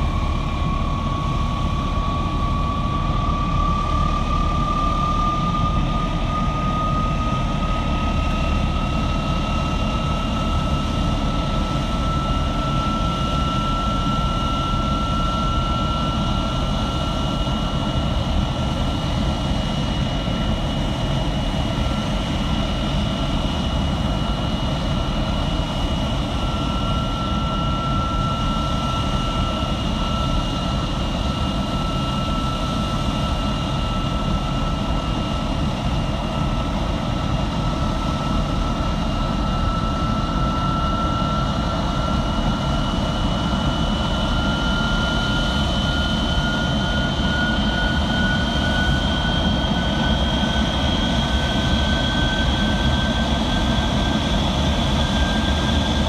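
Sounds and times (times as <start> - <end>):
jet engine running: 0.0 - 56.0.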